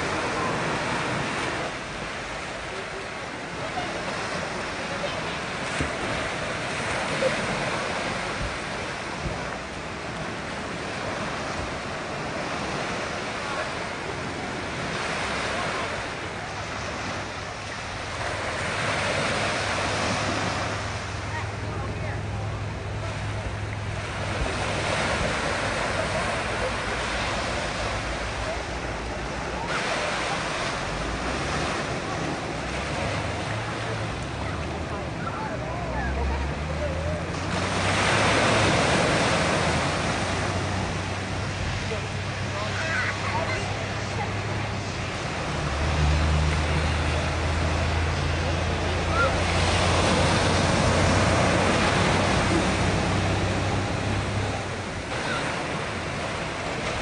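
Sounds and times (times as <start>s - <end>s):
ocean surf washing ashore: 0.0s - 57.0s
waves breaking on beach: 0.0s - 57.0s.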